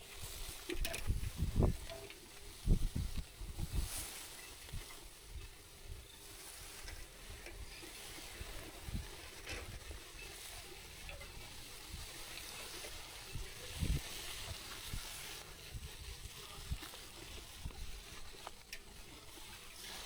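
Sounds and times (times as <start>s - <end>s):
wind and bike riding noise: 0.0s - 20.0s.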